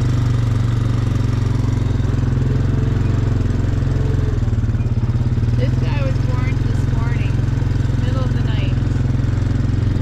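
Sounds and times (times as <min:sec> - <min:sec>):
tractor engine pulsing rumble: 0:00.0 - 0:10.0.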